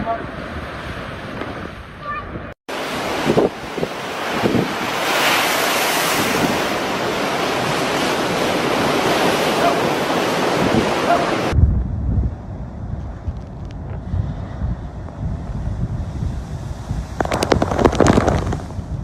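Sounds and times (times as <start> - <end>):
waves breaking in heavy surf: 0.0 - 11.6, 14.0 - 19.0
wind buffeting microphone: 0.0 - 19.0.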